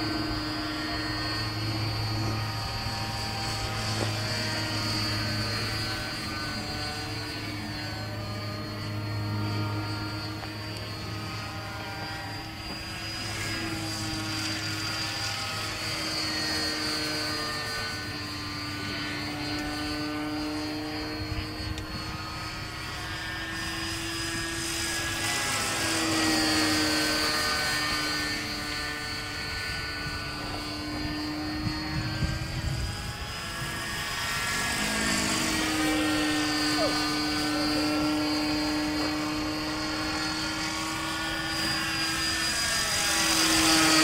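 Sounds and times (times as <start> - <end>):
gyrocopter flying overhead: 0.0 - 44.0.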